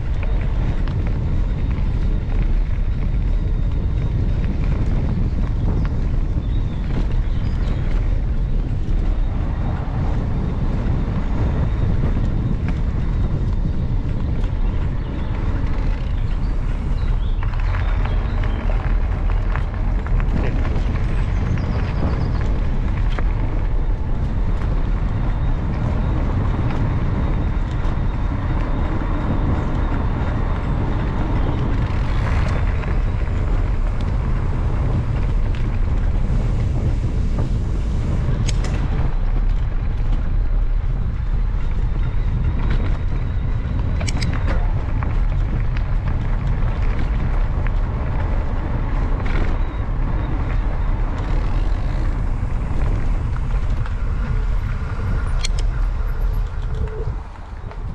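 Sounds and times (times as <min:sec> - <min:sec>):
bike clicks and knocks: 0:00.0 - 0:57.9
mountain bike rolling: 0:00.0 - 0:57.9
wind rumble on microphone: 0:00.0 - 0:57.9.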